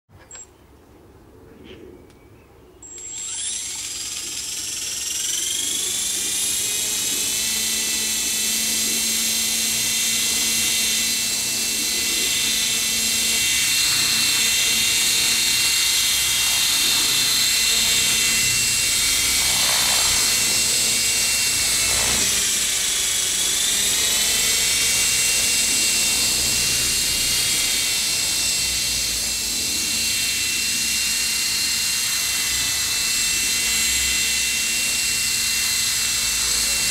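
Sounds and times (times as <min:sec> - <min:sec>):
low rotor hum: 0:02.8 - 0:36.9
rc helicopter motor whine: 0:02.8 - 0:36.9.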